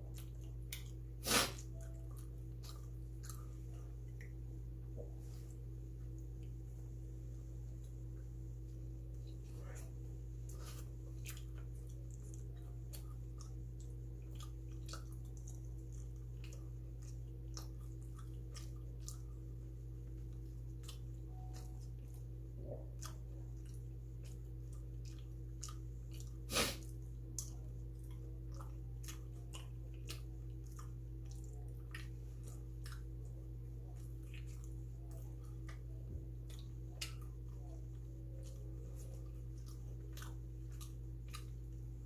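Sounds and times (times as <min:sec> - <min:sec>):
person chewing: 0:00.0 - 0:06.6, 0:09.1 - 0:42.0
low electrical hum: 0:00.0 - 0:42.0.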